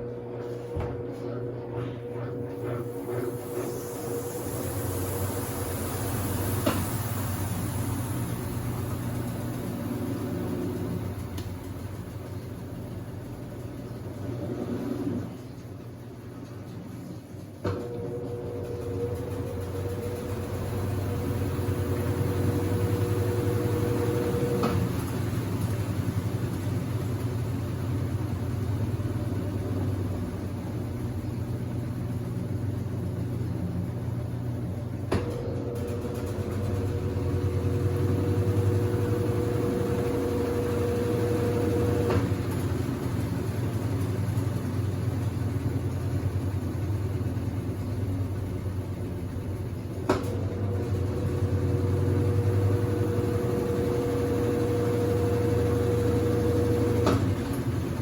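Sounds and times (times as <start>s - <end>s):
washing machine low hum: 0.0s - 58.0s.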